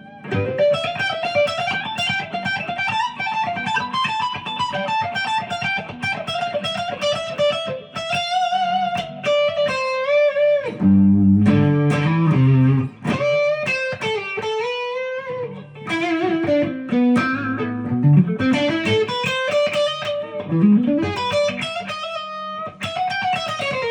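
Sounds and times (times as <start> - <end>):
electric guitar lead lines: 0.0 - 23.9.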